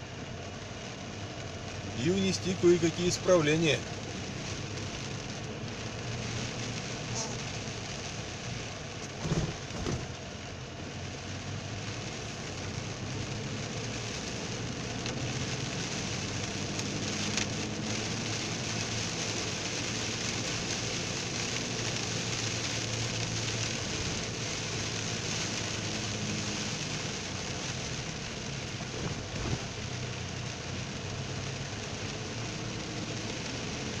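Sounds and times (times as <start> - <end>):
car hum: 0.0 - 34.0
rain and wet tyres hissing: 0.0 - 34.0.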